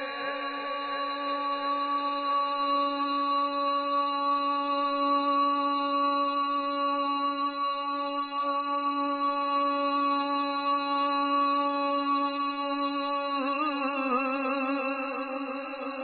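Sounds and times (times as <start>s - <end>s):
droning background note: 0.0s - 16.0s.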